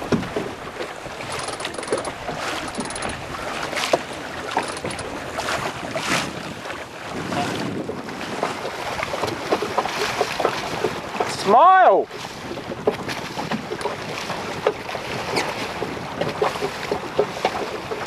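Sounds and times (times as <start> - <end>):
water slapping against boat hull: 0.0 - 18.0
wind buffeting microphone: 2.1 - 11.3, 12.1 - 17.6.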